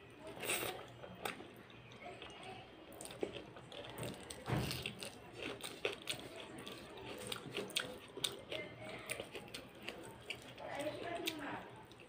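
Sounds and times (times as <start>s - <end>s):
close-up chewing: 0.2s - 12.0s.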